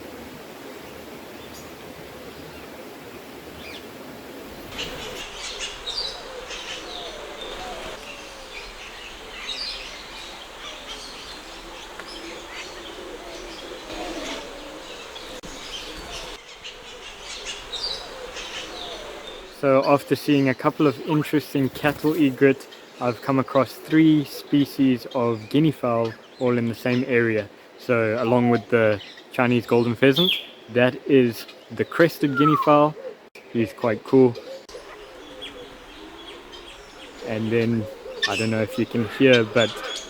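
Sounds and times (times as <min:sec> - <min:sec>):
birds chirping and calling: 0:04.5 - 0:40.0.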